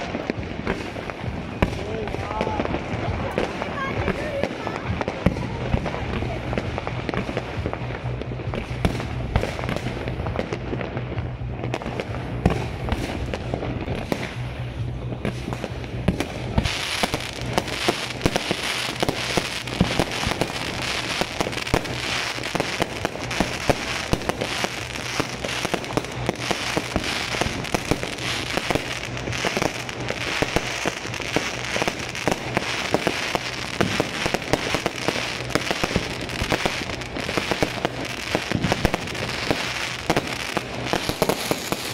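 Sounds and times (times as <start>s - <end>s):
fireworks exploding: 0.0s - 41.9s.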